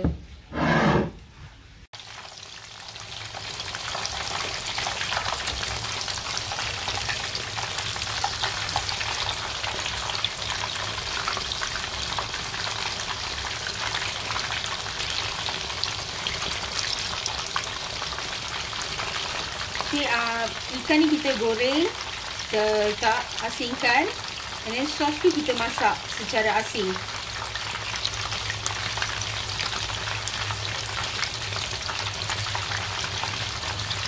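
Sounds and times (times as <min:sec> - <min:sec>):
fish deep-frying in oil: 0:02.0 - 0:34.0.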